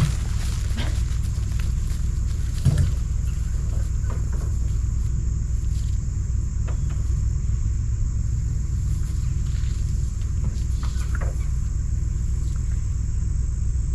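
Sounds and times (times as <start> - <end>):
high insect buzz: 0.0 - 13.9
truck engine idling: 0.0 - 13.9.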